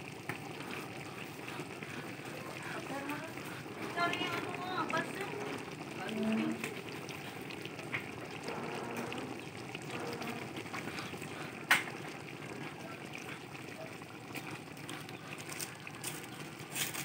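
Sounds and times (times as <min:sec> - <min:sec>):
fire crackles: 0:00.0 - 0:17.0
pot bubbling and hissing: 0:00.0 - 0:17.0.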